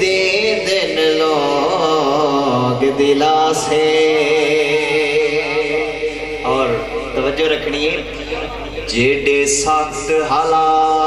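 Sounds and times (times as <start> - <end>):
man singing into microphone: 0.0 - 11.0.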